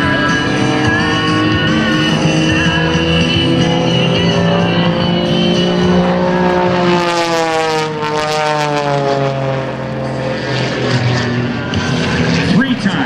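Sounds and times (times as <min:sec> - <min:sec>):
plane engine and propeller droning: 0:00.0 - 0:13.0.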